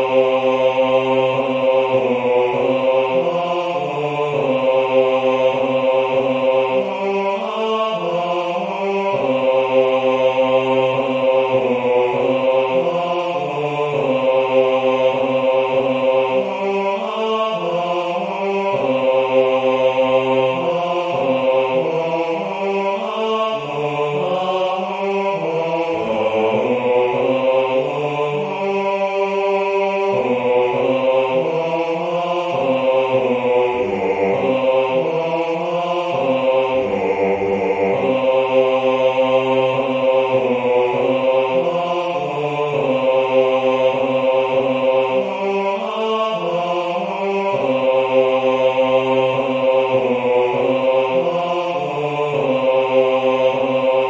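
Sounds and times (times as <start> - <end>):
synthesized choir-like bass line: 0.0 - 54.0.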